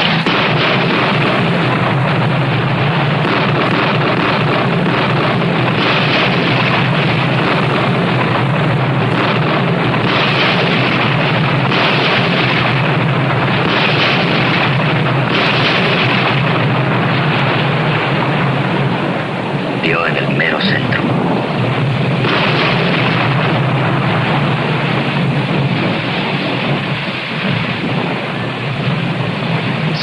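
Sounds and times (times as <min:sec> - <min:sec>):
fire and explosions roaring: 0:00.0 - 0:30.0.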